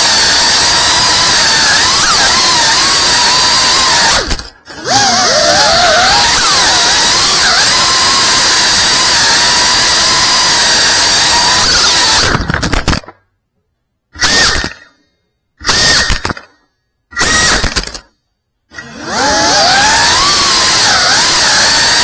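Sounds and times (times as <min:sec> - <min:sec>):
drone motors whining: 0:00.0 - 0:12.5, 0:14.2 - 0:15.0, 0:15.6 - 0:18.1, 0:18.7 - 0:22.0.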